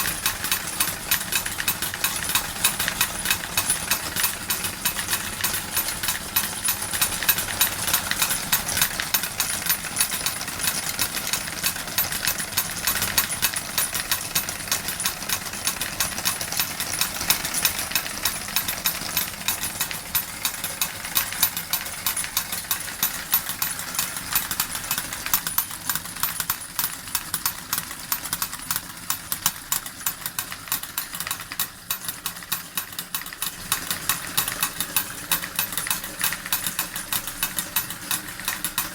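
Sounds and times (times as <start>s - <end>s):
steam engine running: 0.0s - 38.9s.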